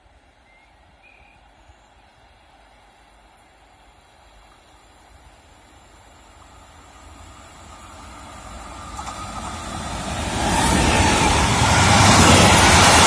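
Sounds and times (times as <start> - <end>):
electric locomotive passing: 0.0 - 13.0
freight train passing: 0.0 - 13.0.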